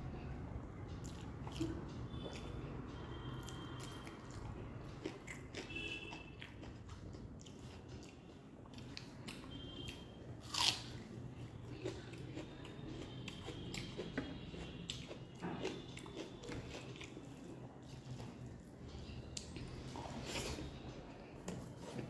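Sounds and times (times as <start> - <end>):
chewing with crunchy bites: 0.8 - 22.0.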